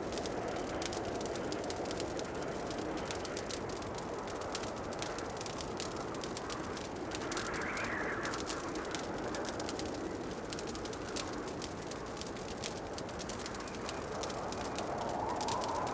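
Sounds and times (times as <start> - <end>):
wood fire crackling and popping: 0.0 - 15.9.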